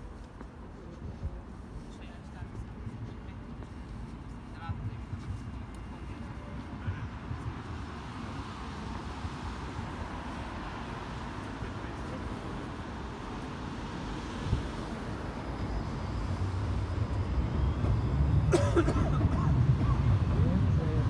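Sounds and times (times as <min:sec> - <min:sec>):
road traffic rumbling: 0:00.0 - 0:21.0.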